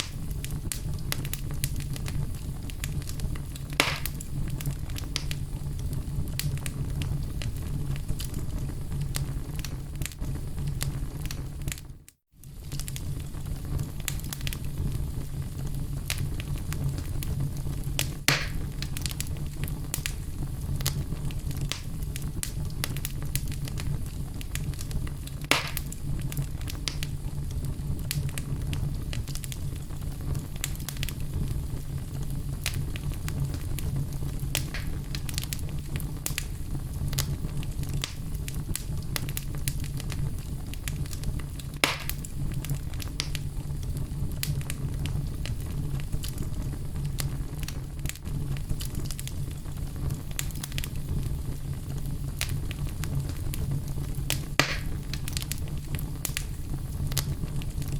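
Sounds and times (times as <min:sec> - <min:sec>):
fire popping: 0:00.0 - 0:57.9
wood fire crackling: 0:00.0 - 0:57.9.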